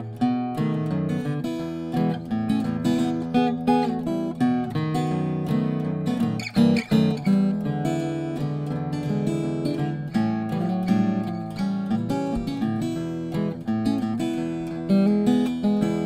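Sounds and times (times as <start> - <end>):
guitar plucked and strummed: 0.0 - 16.0.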